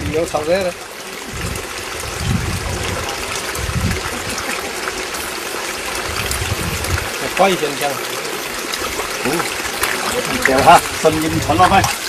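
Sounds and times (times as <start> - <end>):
water streaming steadily: 0.0 - 12.0.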